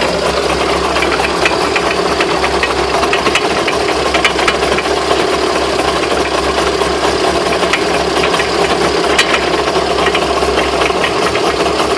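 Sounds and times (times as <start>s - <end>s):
car engine drone: 0.0s - 11.9s
sharp knocks and rattles: 0.0s - 11.9s.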